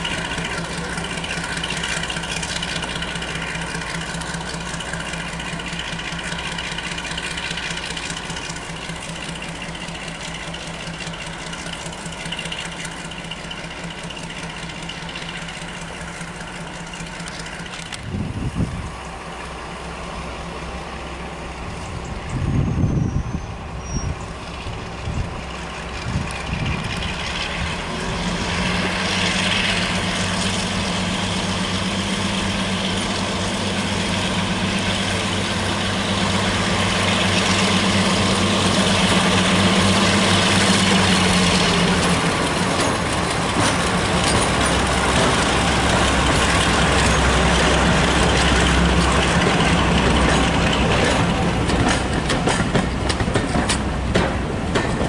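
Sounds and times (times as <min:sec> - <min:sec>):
diesel locomotive engines droning: 0:00.0 - 0:55.0
train coaches rumbling past: 0:00.0 - 0:55.0.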